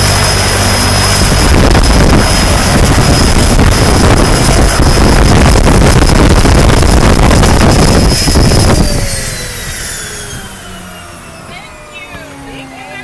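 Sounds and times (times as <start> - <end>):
turboprop engine whine: 0.0 - 13.0.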